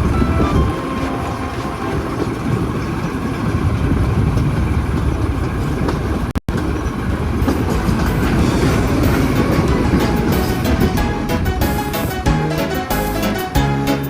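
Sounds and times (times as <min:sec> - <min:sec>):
train running on rails: 0:00.0 - 0:14.0.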